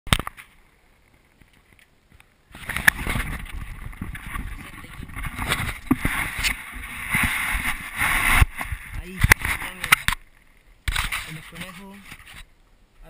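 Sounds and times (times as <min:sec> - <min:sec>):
camera handling rumble and rustling: 0:00.1 - 0:12.6.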